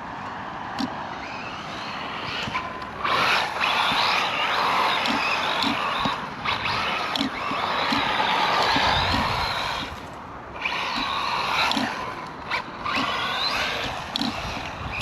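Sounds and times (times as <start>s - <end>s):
rc car motor whine: 0.0s - 15.0s
tyres on gravel: 1.5s - 14.7s.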